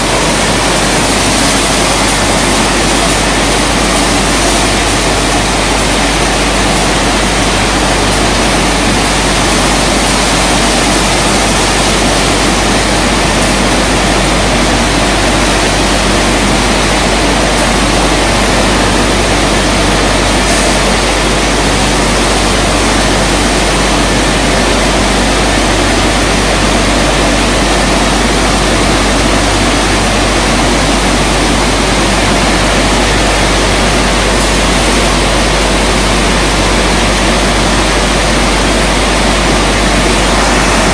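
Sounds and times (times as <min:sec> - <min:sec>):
water spray rushing: 0:00.0 - 0:40.9.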